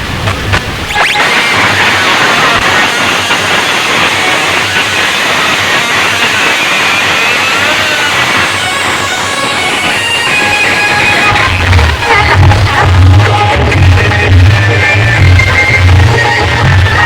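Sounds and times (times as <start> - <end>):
loud music from sound system: 0.9 - 17.0.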